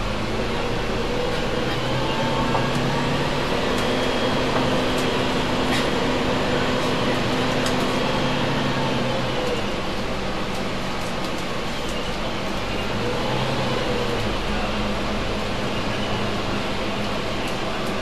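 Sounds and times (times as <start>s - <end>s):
diesel bus engines idling: 0.0s - 18.0s.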